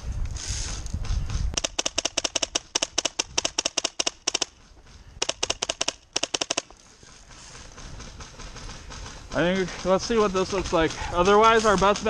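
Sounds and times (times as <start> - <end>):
airsoft gun rapid fire: 1.5 - 12.0.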